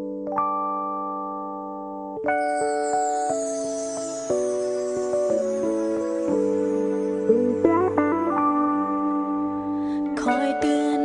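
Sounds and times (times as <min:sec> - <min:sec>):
background music with wavering notes: 0:00.0 - 0:11.0.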